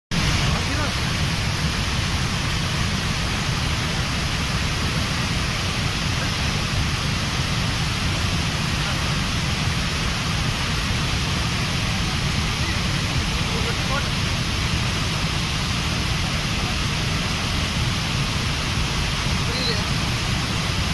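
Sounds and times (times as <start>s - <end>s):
rushing falling water: 0.1s - 20.9s.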